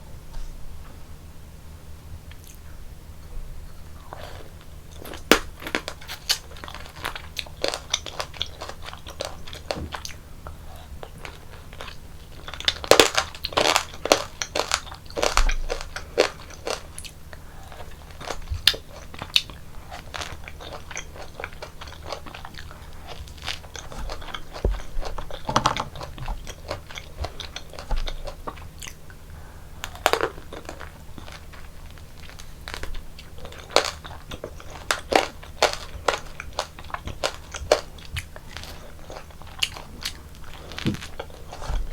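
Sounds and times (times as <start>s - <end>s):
quiet chewing: 2.3s - 41.9s
candy shell crunching: 5.0s - 10.2s, 11.1s - 28.8s, 29.8s - 41.9s.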